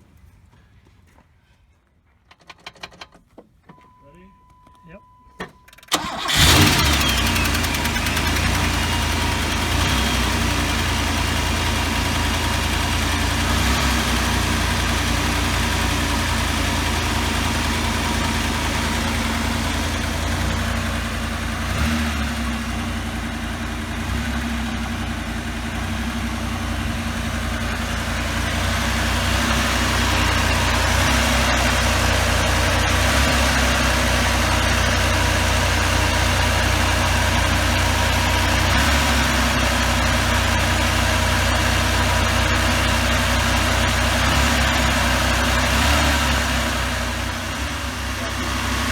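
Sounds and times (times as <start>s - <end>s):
car engine cranking: 5.4s - 48.9s
car engine idling: 5.7s - 48.9s.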